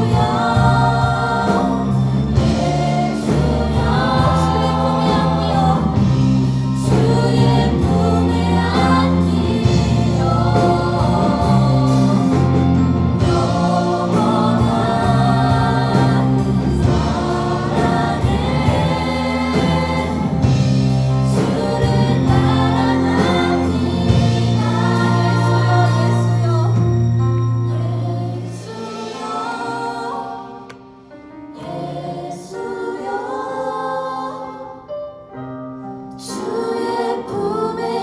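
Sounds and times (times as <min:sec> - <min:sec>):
band accompaniment: 0:00.0 - 0:31.9
church choir singing: 0:00.0 - 0:38.0.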